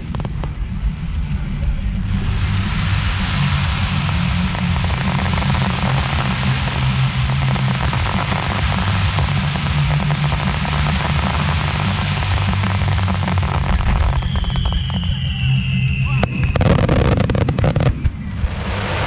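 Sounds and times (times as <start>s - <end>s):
deep rumble of bursting shells: 0.0s - 19.0s
fireworks crackling: 0.0s - 19.0s
falling firework whistle: 2.9s - 19.0s.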